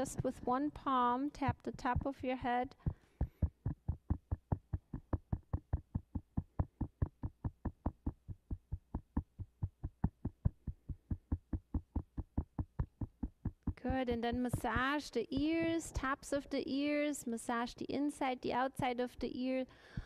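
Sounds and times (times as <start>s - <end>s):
palm patting head: 0.0s - 16.3s.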